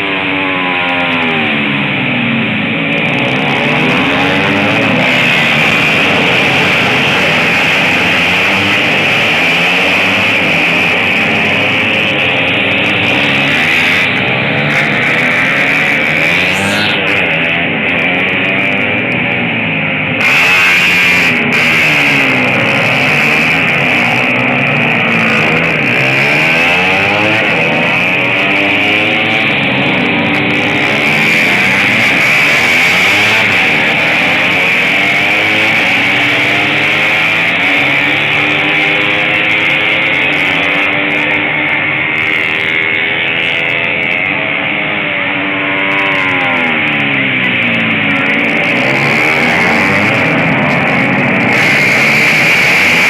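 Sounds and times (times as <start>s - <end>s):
racing motorcycle engines revving: 0.0s - 53.0s.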